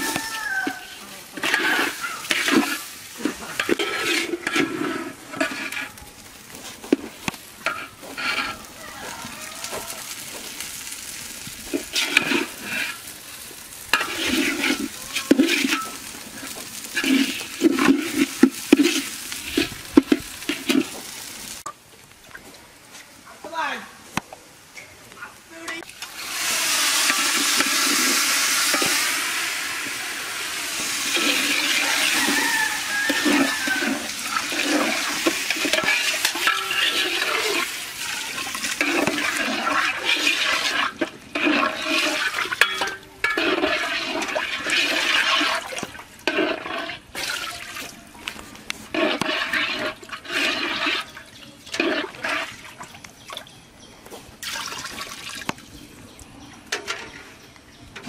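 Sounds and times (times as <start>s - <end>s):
water pouring into a metal pot: 0.0s - 21.6s, 25.9s - 48.1s, 48.9s - 53.0s, 54.4s - 55.6s.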